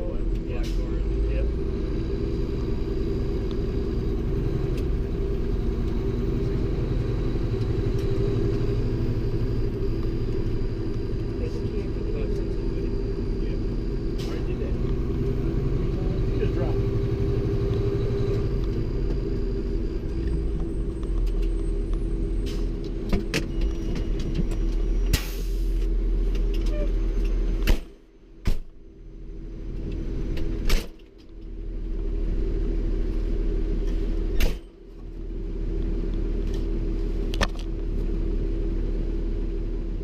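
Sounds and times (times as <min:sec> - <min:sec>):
fire engine rumbling: 0:00.0 - 0:40.0.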